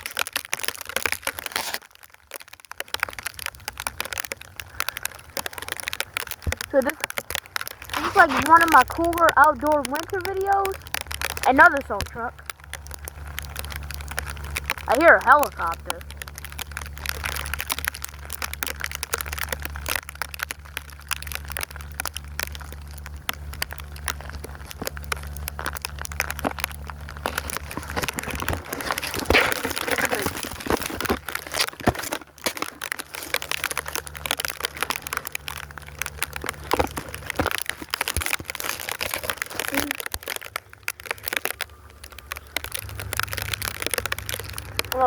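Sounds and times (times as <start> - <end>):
plastic case crinkling: 0.0 - 45.0.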